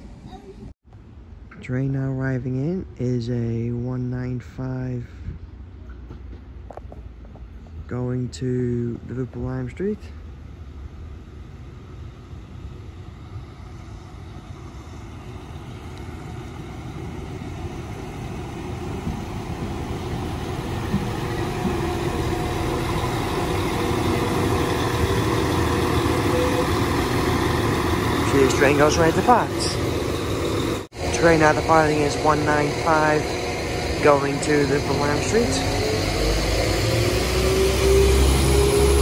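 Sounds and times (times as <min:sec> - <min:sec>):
diesel train pulling in: 0:00.0 - 0:39.0.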